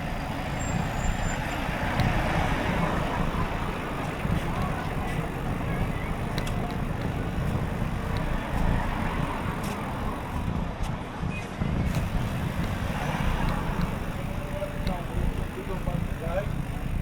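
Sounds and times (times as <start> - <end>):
road and traffic noise: 0.0 - 17.0
wind buffeting microphone: 0.0 - 17.0
faint clicks: 1.3 - 10.5, 11.9 - 17.0.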